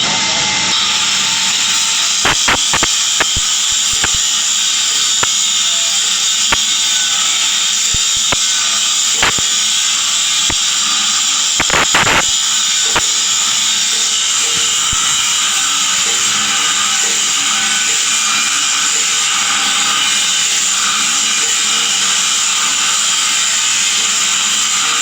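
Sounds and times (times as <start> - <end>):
welding arc hissing and crackling: 0.0 - 25.0.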